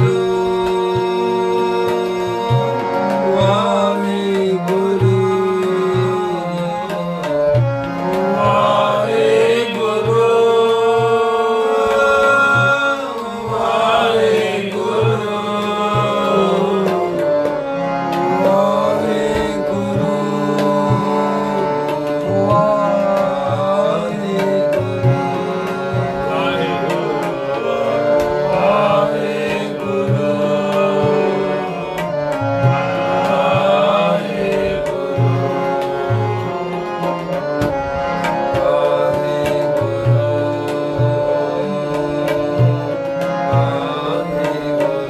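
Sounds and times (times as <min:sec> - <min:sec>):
man singing devotional phrases: 0:00.0 - 0:17.4, 0:18.3 - 0:31.9, 0:32.8 - 0:37.0, 0:38.6 - 0:45.0
harmonium chords: 0:00.0 - 0:45.0
tabla drumming: 0:00.0 - 0:45.0.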